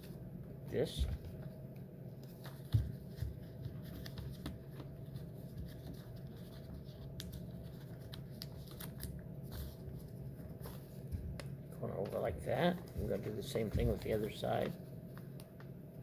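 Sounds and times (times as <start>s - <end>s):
steady low hum: 0.0s - 16.0s
paper rustling and crinkling: 2.2s - 15.7s.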